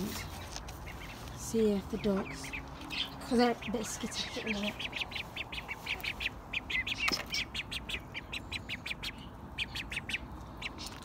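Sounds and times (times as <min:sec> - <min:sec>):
baby ducks peeping: 0:00.0 - 0:11.0.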